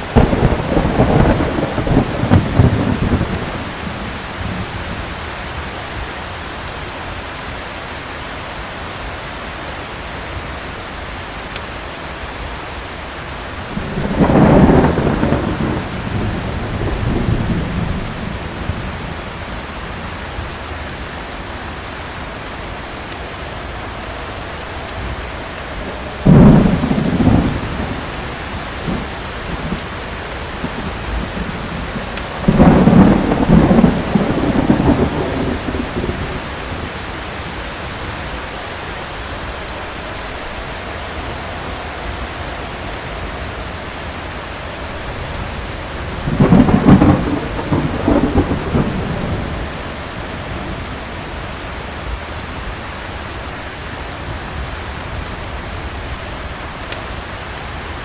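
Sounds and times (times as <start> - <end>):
thunder rumbling: 0.0 - 6.9, 13.0 - 58.0
heavy rain: 0.0 - 58.0.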